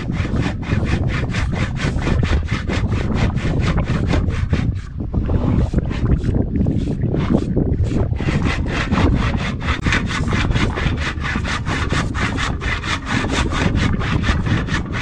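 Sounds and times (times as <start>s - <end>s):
handsaw rasping through log: 0.0s - 15.0s.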